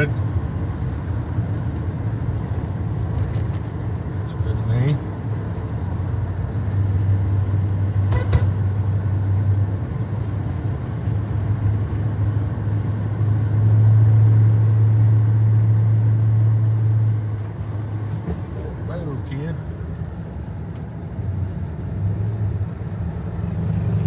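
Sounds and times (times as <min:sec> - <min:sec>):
pickup engine and road drone: 0:00.0 - 0:24.0.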